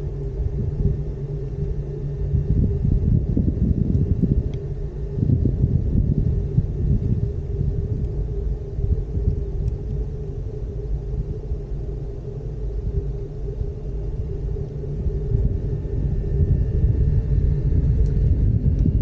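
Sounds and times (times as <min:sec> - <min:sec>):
faint steady hum: 0:00.0 - 0:19.0
gondola cabin rumbling along cable: 0:00.0 - 0:19.0.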